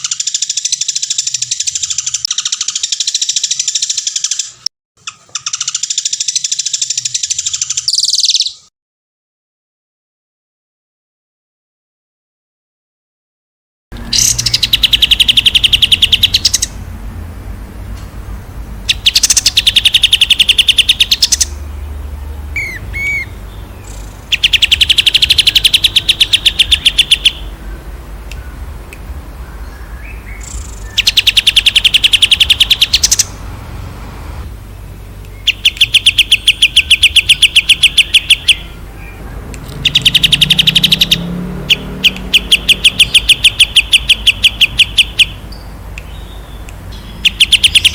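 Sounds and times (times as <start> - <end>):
songbird singing fast trills: 0.0 - 8.7, 14.0 - 16.8, 18.7 - 47.9.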